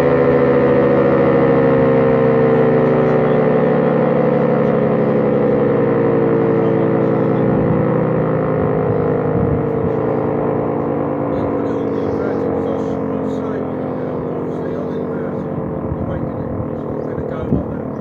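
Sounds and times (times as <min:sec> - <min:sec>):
siren winding down: 0:00.0 - 0:18.0.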